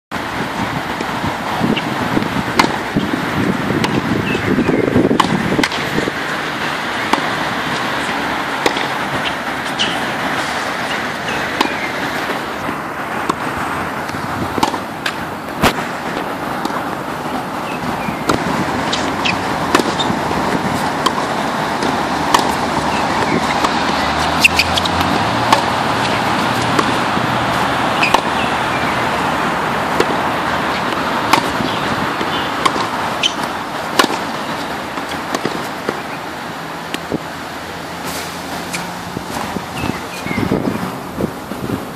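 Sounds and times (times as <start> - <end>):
outdoor background rush: 0.1 - 41.9
tennis balls bouncing on court: 0.5 - 41.4
tennis balls struck by racket: 0.5 - 41.4.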